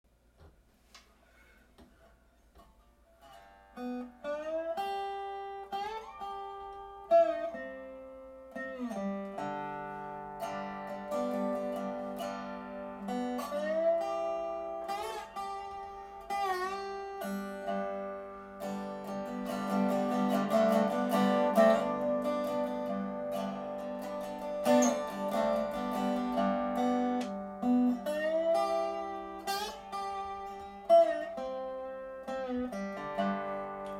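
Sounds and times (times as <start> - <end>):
solo guitar with bends and slides: 2.6 - 33.9.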